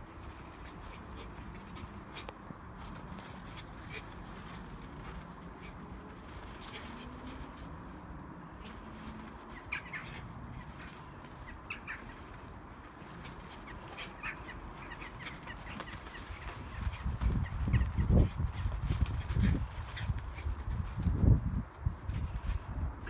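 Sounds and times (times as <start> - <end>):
dogs playing with high sounds: 0.0 - 23.0.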